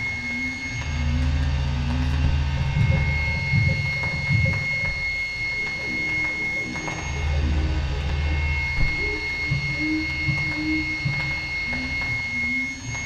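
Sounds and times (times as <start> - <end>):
electronic noise music: 0.0 - 13.0.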